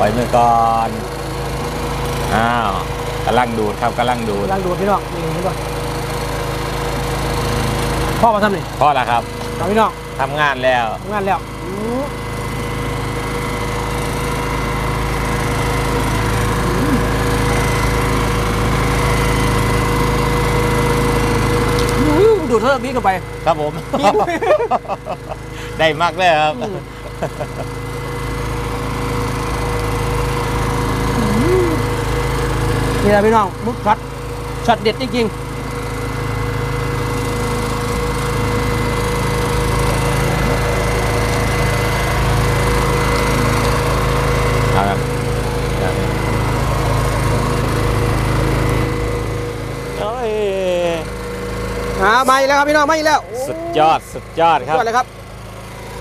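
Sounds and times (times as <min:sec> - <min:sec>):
boat engine droning: 0:00.0 - 0:56.0
engine whine: 0:00.0 - 0:56.0.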